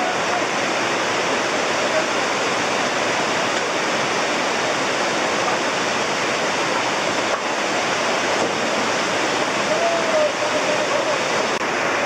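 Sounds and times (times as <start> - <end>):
fast-flowing water rushing: 0.0 - 12.0.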